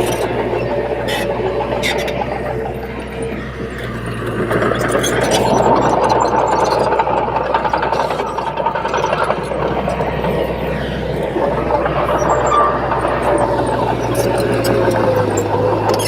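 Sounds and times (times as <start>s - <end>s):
bulldozer diesel engine running: 0.0s - 16.0s
steel tracks squealing: 0.0s - 16.0s.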